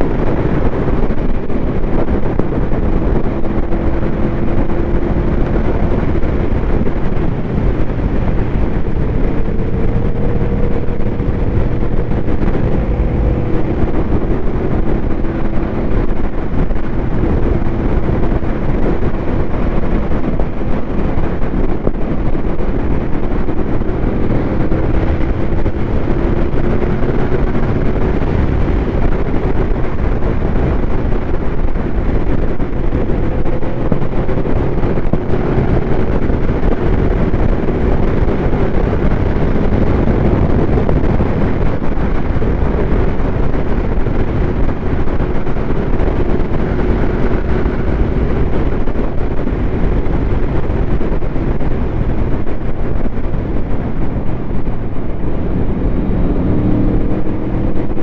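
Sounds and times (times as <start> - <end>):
motorcycle engine at speed: 0.0 - 58.0
wind rush on microphone: 0.0 - 58.0.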